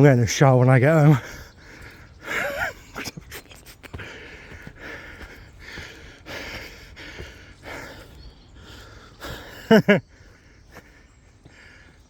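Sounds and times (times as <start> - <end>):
man panting and breathing hard: 1.0 - 12.0.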